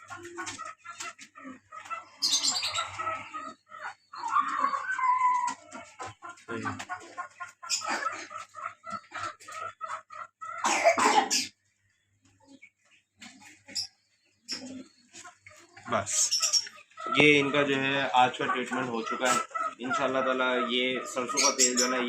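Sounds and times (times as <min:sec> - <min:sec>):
chickens clucking and chirping: 0:00.0 - 0:22.0.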